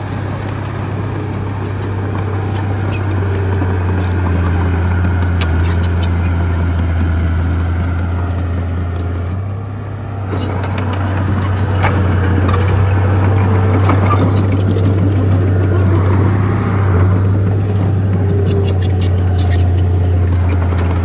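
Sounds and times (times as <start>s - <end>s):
bulldozer diesel engine droning: 0.0s - 21.0s.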